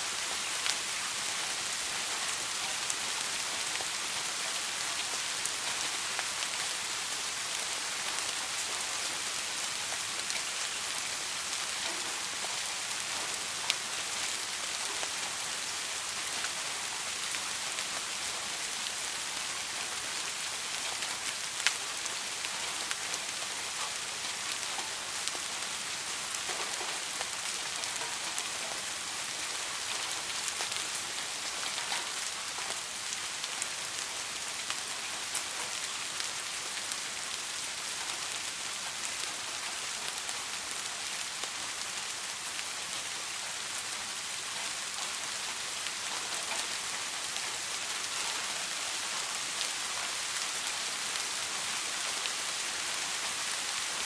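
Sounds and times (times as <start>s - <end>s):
soft rain falling: 0.0s - 54.0s.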